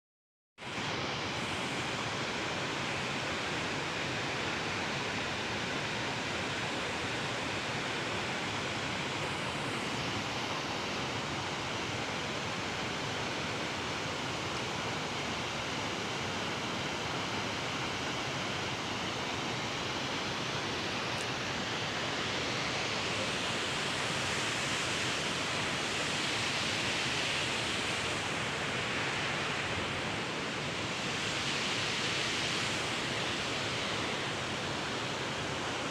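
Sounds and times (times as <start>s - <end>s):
waterfall rushing: 0.8s - 35.9s.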